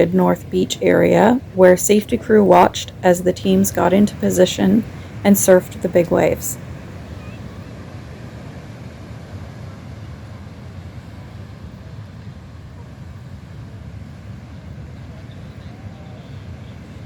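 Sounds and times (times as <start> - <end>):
heavy ocean surf: 0.0 - 17.0.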